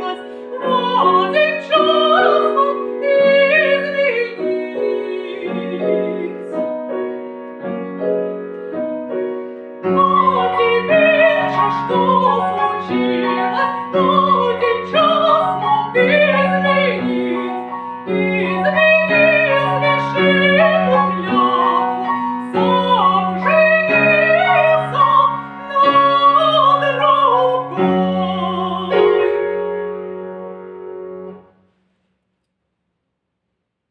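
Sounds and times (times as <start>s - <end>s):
woman singing classical style: 0.0s - 7.2s, 9.7s - 30.2s
piano accompaniment: 0.0s - 31.8s.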